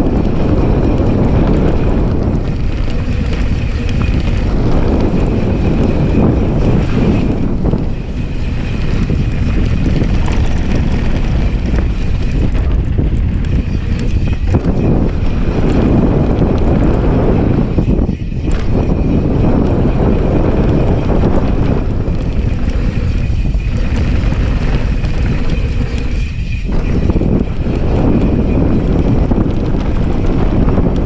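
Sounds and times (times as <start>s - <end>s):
bike tyres rolling on dirt: 0.0s - 31.0s
wind buffeting microphone: 0.0s - 31.0s.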